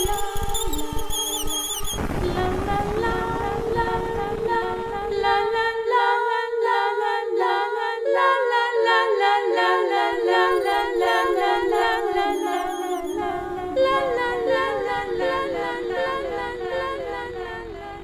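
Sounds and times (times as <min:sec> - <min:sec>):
voices singing in harmony: 0:00.0 - 0:18.0.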